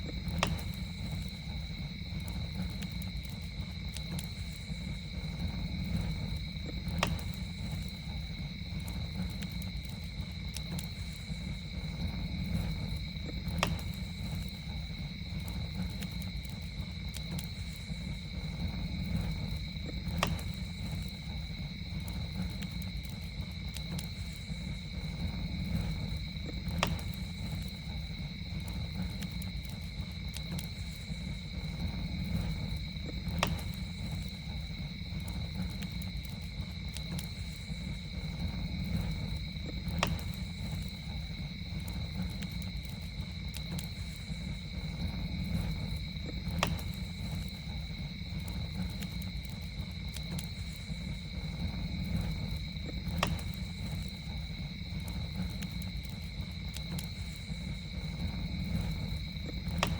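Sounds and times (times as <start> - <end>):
campfire crackling and popping: 0.0 - 59.9
night insects droning: 0.0 - 59.9.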